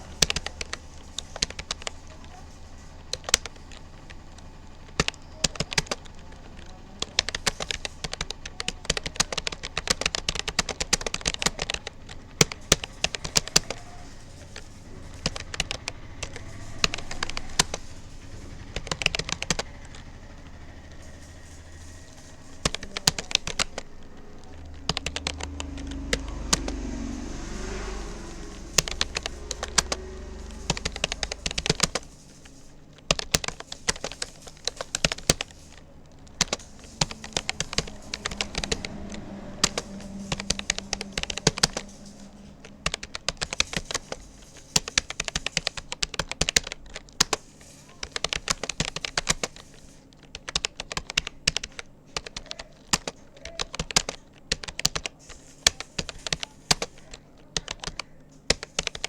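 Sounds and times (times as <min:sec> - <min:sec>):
low background rumble: 0:00.0 - 0:52.7
keyboard keystroke clicks: 0:03.1 - 0:26.8, 0:27.8 - 0:59.0.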